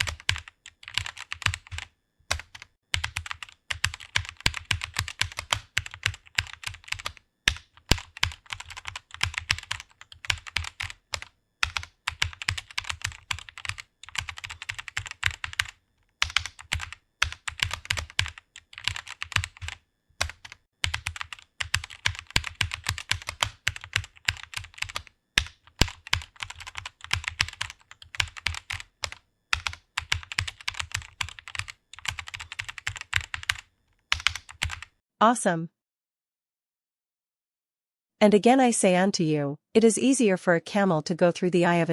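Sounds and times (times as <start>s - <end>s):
keyboard typing clicks: 0.0s - 34.9s.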